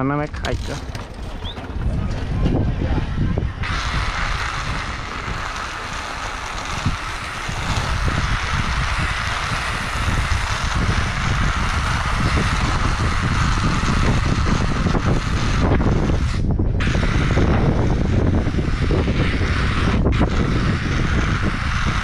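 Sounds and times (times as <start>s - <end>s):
tyres rumbling on asphalt: 0.0s - 22.0s
wind rushing over microphone: 0.0s - 22.0s.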